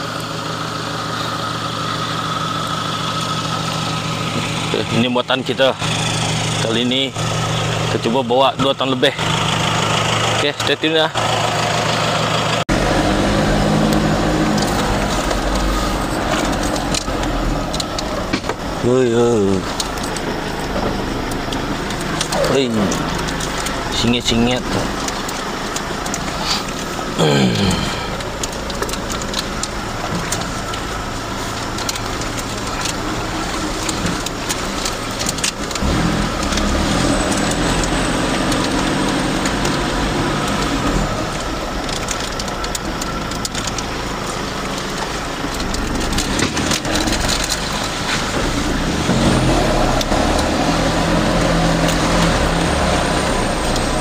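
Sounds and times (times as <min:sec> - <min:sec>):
pickup truck engine labouring: 0:00.0 - 0:54.0.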